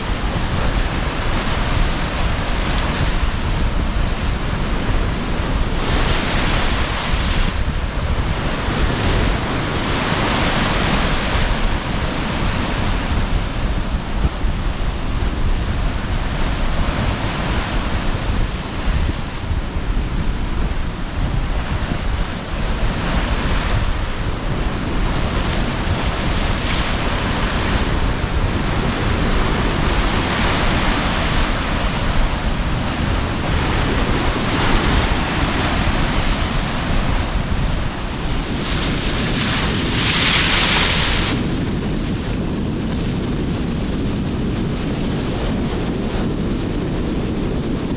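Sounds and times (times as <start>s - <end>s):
surf breaking on shore: 0.0s - 46.6s
wind rumbling on microphone: 0.0s - 47.9s.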